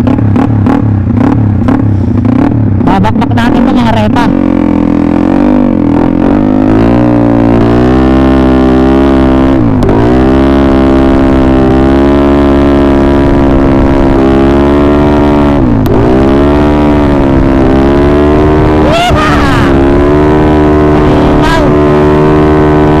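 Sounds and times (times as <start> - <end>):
scooter engine revving hard: 0.0 - 23.0.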